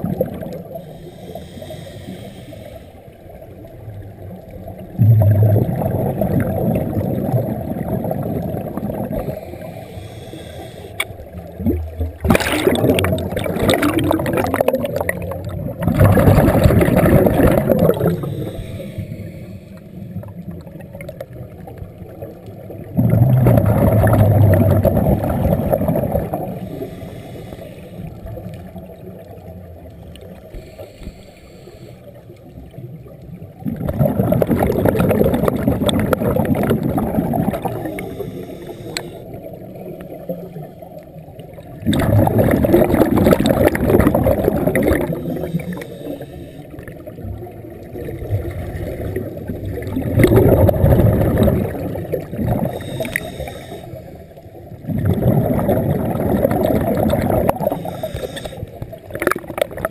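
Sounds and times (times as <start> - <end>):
scuba exhaust bubbles: 0.0 - 59.9.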